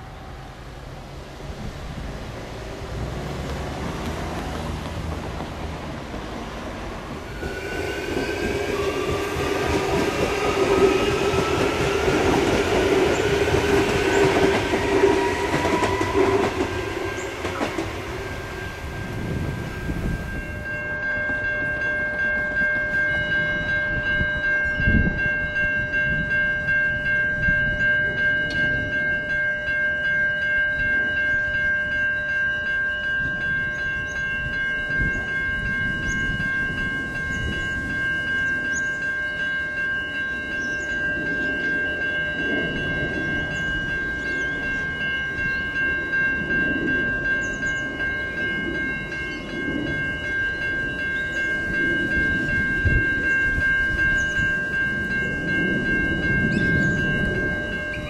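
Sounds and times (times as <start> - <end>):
train engines and wheels rumbling: 0.0 - 58.0.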